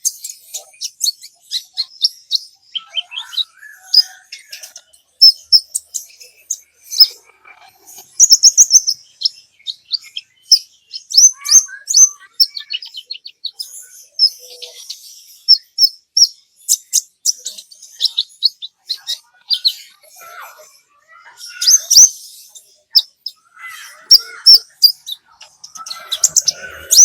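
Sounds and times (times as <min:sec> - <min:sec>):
bird singing high chirps: 0:00.0 - 0:27.0.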